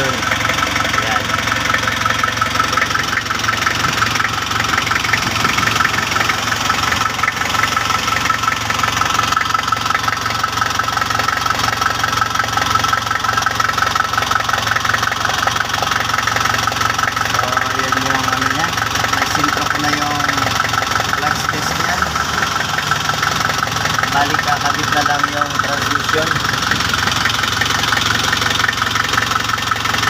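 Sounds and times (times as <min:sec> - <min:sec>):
car engine idling with whine: 0:00.0 - 0:30.0.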